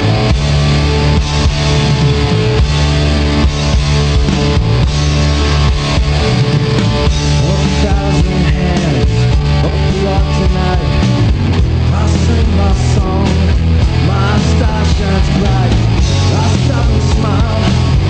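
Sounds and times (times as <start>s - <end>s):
driving drum kit: 0.0s - 18.0s
electric guitars: 0.0s - 18.0s.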